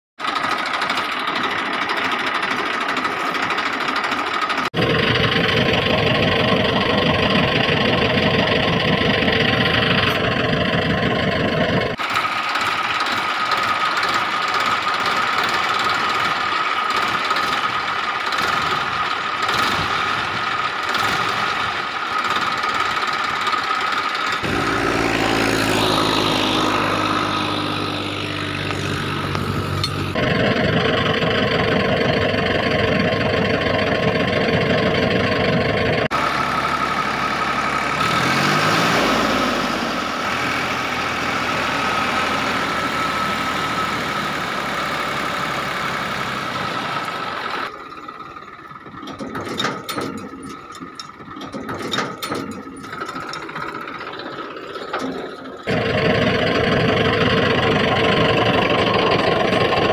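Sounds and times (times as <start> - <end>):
engine running and idling: 0.2 - 59.9.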